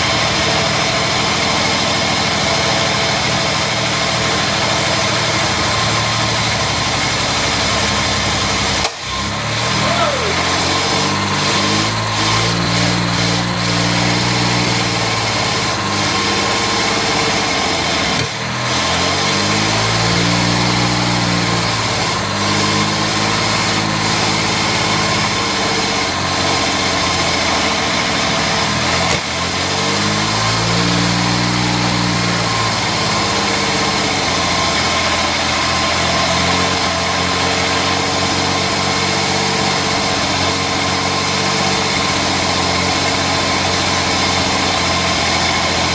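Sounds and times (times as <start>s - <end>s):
car engine surging idle: 0.0s - 45.9s.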